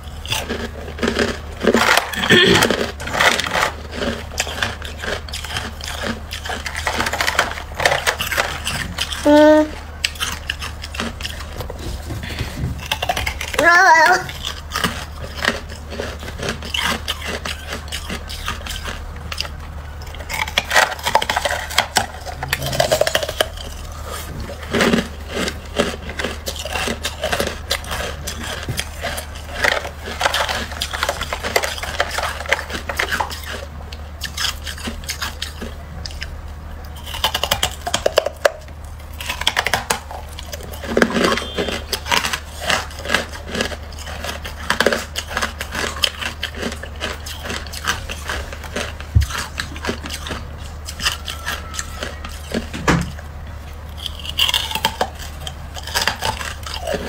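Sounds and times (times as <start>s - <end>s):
frost crunching while chewed: 0.0s - 57.0s
steady low hum: 0.0s - 57.0s.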